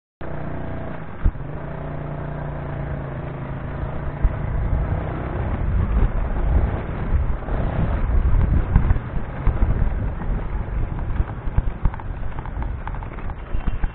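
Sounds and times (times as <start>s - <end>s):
motorcycle engine running: 0.2s - 13.9s.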